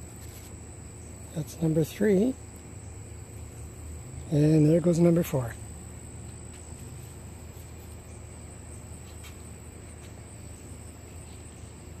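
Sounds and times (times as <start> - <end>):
crickets trilling: 0.0 - 12.0
low steady background hum: 0.0 - 12.0.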